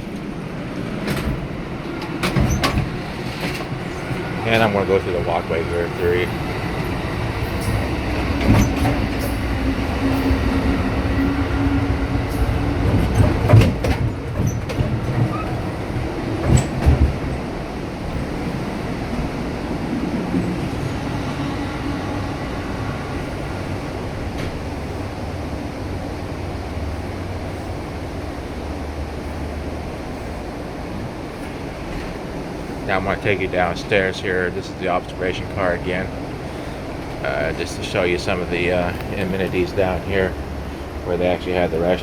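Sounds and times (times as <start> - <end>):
train rumble and rattle: 0.0 - 42.0.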